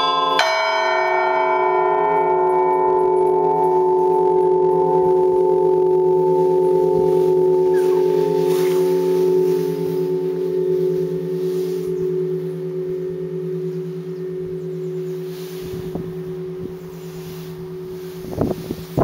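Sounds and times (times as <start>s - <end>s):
church bell ringing: 0.0s - 19.0s.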